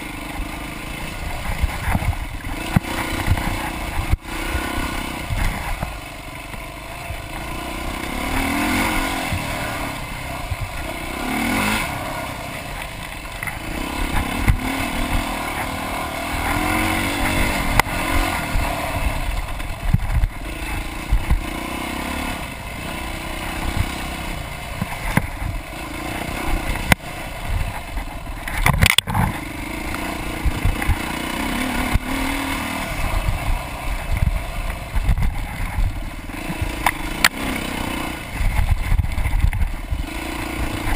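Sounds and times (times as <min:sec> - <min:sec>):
bike knocking and rattling: 0:00.0 - 0:40.9
dirt bike engine revving: 0:00.0 - 0:40.9
sharp clatter: 0:00.0 - 0:40.9.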